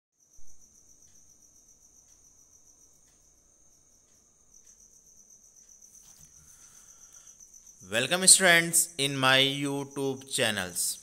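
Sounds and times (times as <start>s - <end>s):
crickets chirping: 0.2s - 11.0s.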